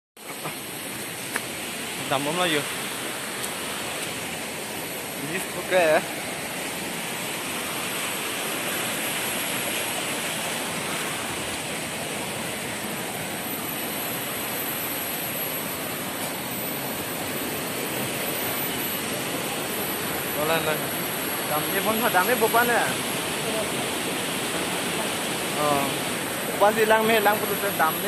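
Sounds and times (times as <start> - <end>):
waterfall and river rushing: 0.2 - 28.0.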